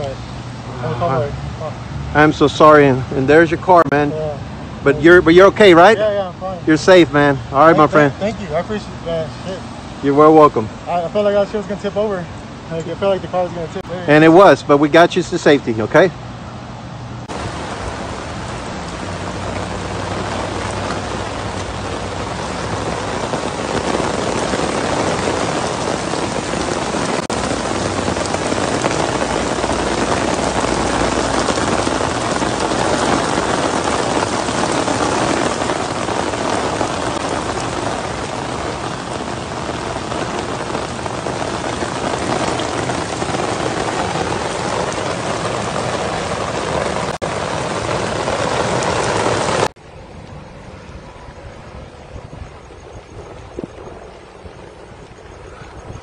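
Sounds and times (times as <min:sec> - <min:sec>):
heavy rain on standing water: 0:00.0 - 0:56.0.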